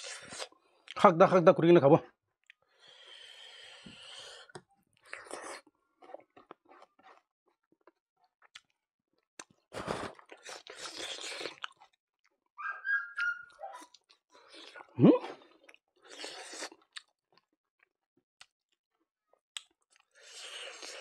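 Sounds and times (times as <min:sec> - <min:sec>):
man chewing food: 0:02.4 - 0:12.4, 0:13.5 - 0:21.0.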